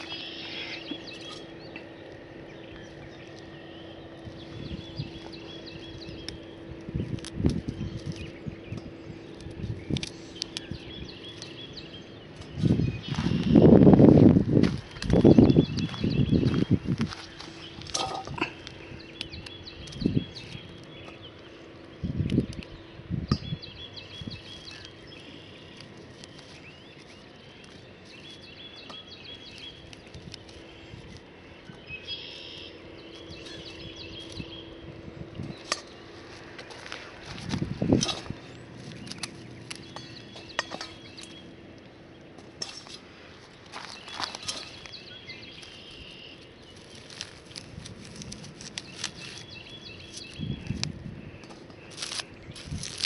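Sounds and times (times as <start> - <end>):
straw mulch crackling and rustling: 0.0 - 22.8, 23.7 - 53.0
faint low hum: 0.0 - 53.0
small birds chirping: 0.0 - 53.0.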